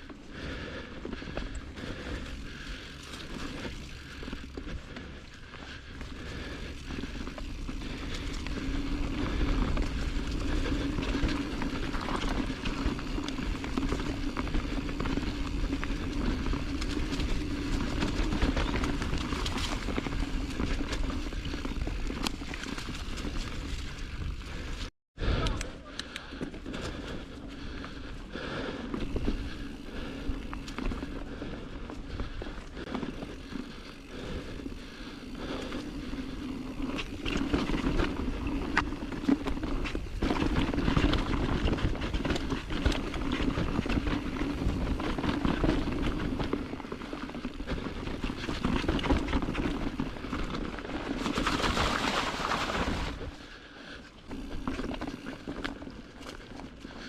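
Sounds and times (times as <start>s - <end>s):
bike clicks and rattles: 0.0s - 57.0s
bike tyre noise on trail: 0.0s - 57.0s.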